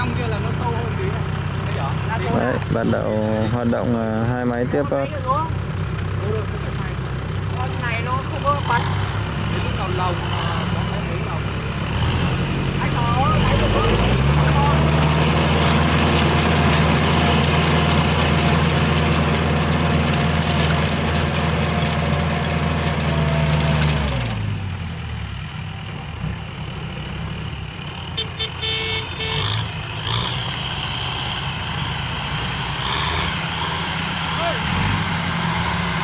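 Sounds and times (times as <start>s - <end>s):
distant engine: 0.0s - 36.0s
tractor engines running: 0.0s - 36.0s.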